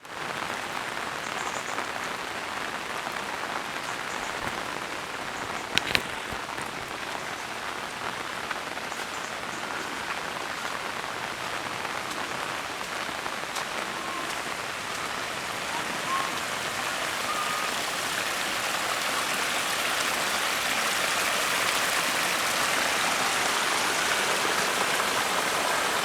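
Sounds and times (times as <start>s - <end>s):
rushing water hiss: 0.5s - 26.0s.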